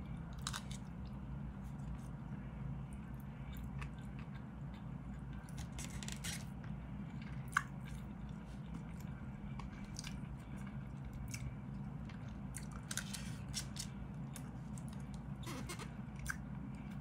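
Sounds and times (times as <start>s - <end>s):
steady low hum: 0.0s - 17.0s
person chewing food: 0.2s - 17.0s.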